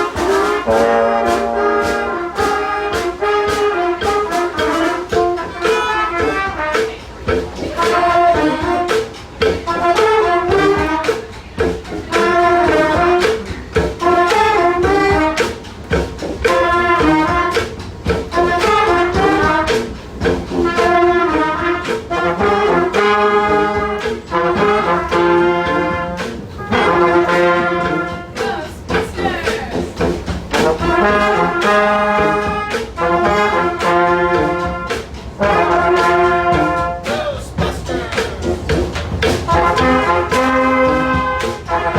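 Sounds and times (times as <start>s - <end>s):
brass band playing: 0.0s - 41.9s.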